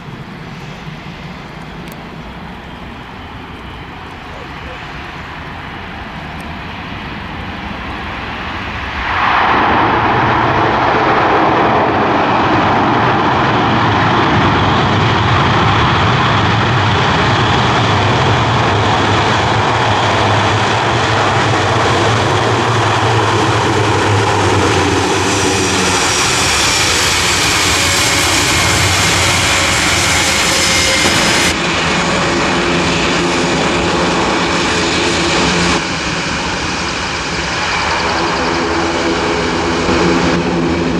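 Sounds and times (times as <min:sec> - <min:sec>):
turbine whine: 0:00.0 - 0:40.9
turboprop aircraft roaring: 0:00.0 - 0:40.9.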